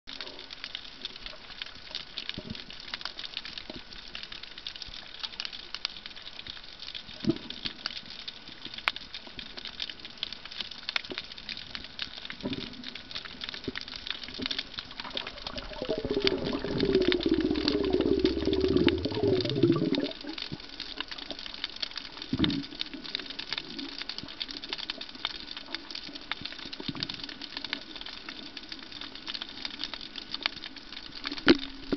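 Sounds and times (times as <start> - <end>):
underwater crackle of clicks: 0.1 - 31.9.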